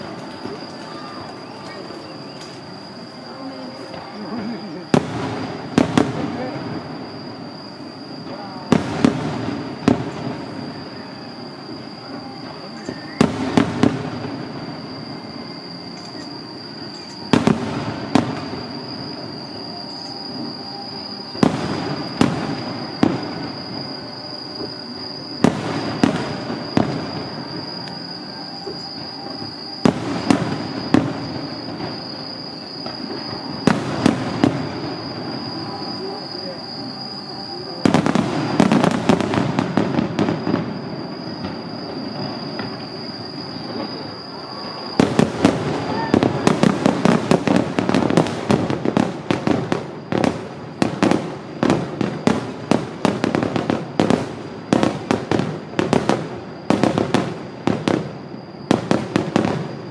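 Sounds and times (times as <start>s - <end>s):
fireworks bursting: 0.0s - 59.9s
fireworks crackle: 0.0s - 59.9s.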